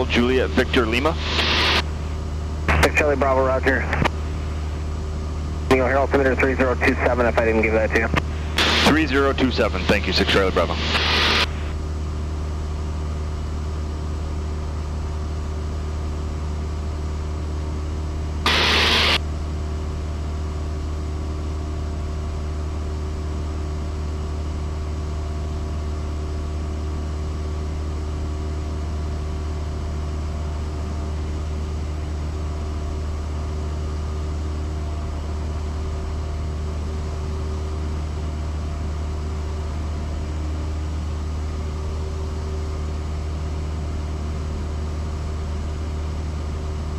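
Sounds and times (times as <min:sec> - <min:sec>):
aircraft engine and propeller drone: 0:00.0 - 0:46.9.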